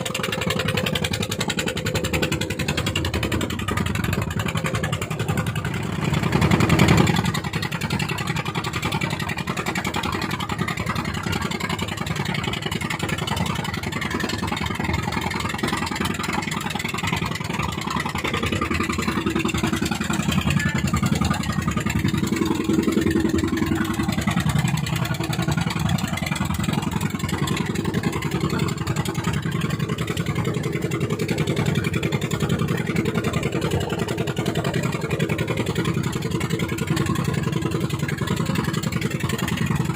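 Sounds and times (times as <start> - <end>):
boat engine running hard: 0.0 - 39.9.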